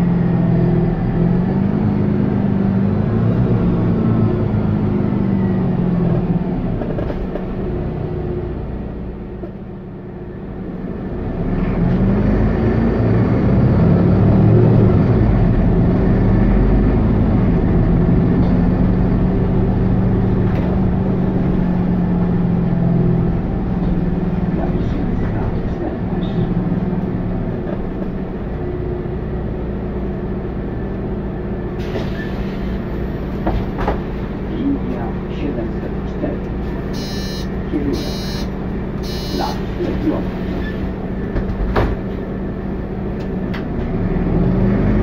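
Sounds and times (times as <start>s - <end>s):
bus engine accelerating: 0.0s - 45.0s.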